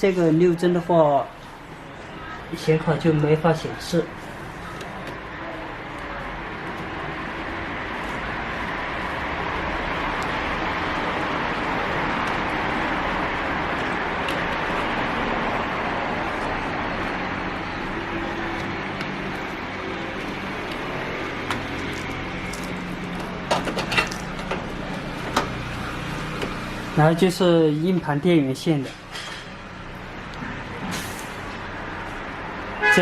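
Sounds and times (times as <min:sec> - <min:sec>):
rushing background noise: 0:00.0 - 0:33.0.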